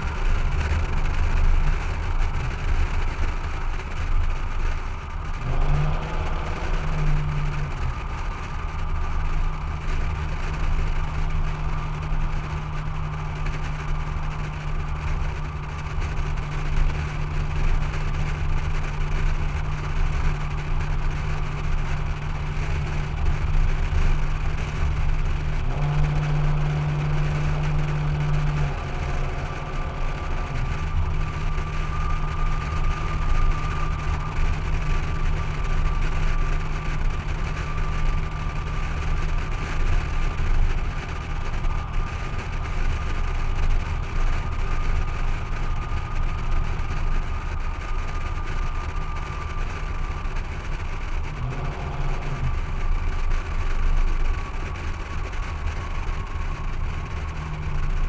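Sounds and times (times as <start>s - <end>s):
truck engine droning: 0.0s - 58.0s
wind and road noise: 0.0s - 58.0s.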